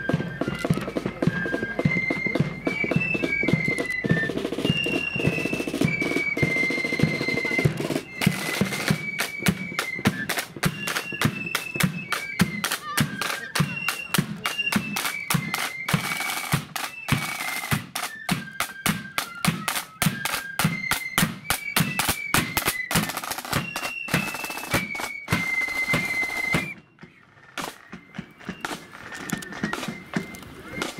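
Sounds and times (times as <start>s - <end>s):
flute band melody: 0.0s - 30.9s
side drums: 0.0s - 30.9s.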